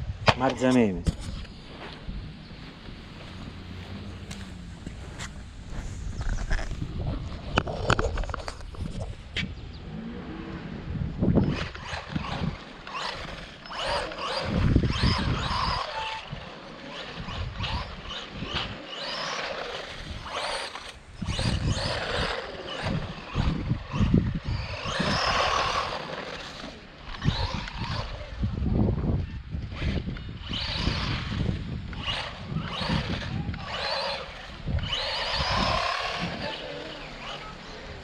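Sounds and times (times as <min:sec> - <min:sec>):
wind on microphone: 0:00.0 - 0:38.0
electric motor whining: 0:01.2 - 0:38.0.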